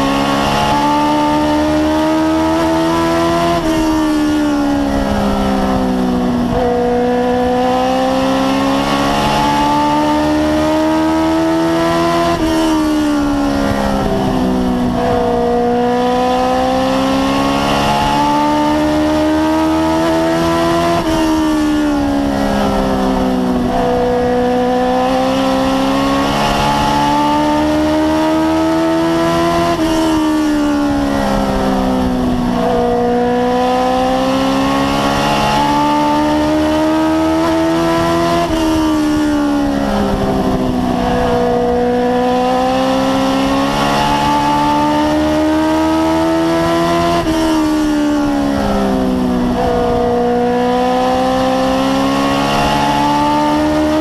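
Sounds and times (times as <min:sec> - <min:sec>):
race car engine at full speed: 0:00.0 - 0:54.0.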